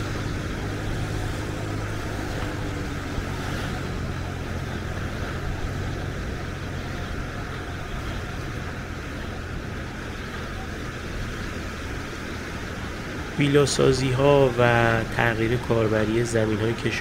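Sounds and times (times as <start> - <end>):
surf washing onto beach: 0.0 - 17.0.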